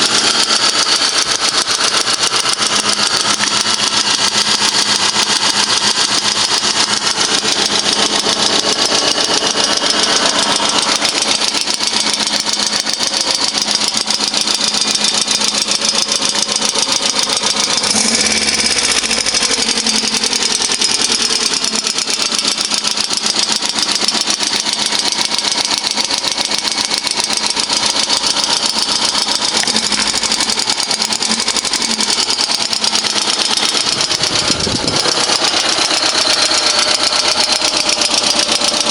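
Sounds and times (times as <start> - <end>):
car engine running: 0.0 - 38.9
fast ticking valvetrain: 0.0 - 38.9.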